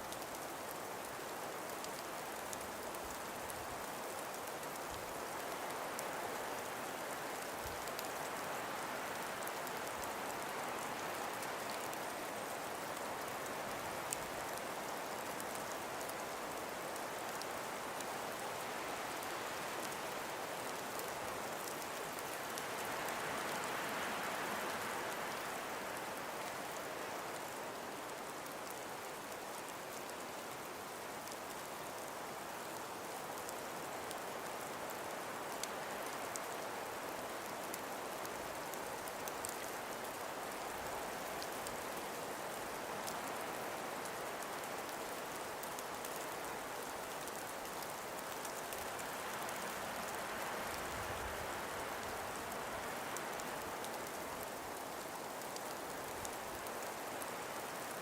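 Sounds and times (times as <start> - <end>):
hiss of wind or rain: 0.0 - 58.0
faint ticks: 0.1 - 58.0.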